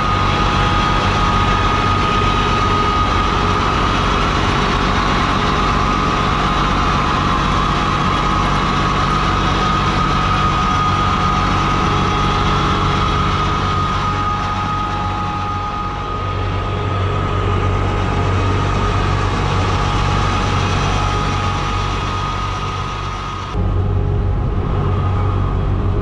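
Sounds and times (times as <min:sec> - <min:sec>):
steady high whine: 0:00.0 - 0:26.0
tractor diesel engine running: 0:00.0 - 0:26.0.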